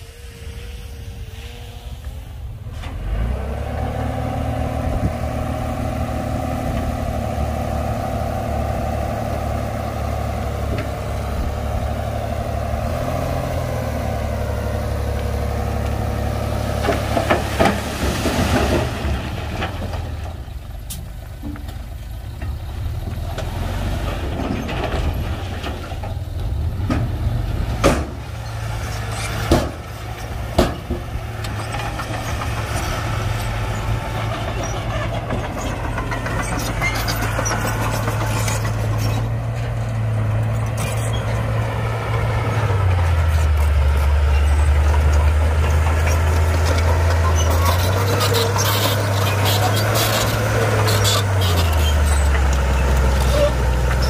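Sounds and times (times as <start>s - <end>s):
diesel earthmoving machinery droning: 0.0s - 54.0s.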